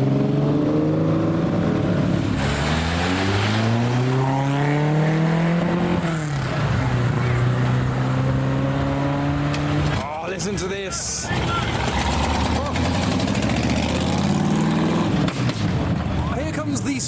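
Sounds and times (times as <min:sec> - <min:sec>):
car engine accelerating: 0:00.0 - 0:16.3.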